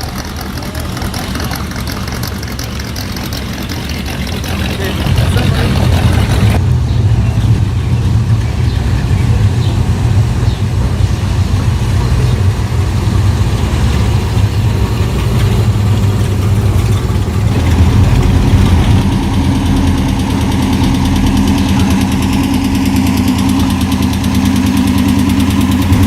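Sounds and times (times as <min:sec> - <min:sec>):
car engine idling: 0:00.0 - 0:26.0
higher engine note: 0:00.0 - 0:26.0.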